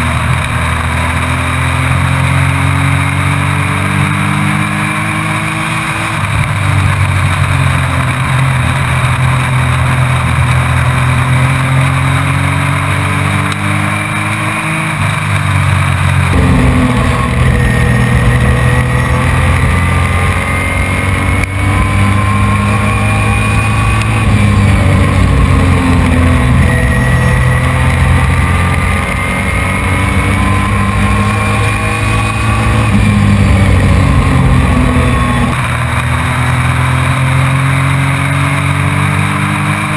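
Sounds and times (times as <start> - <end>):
race truck engine running hard: 0.0 - 39.9.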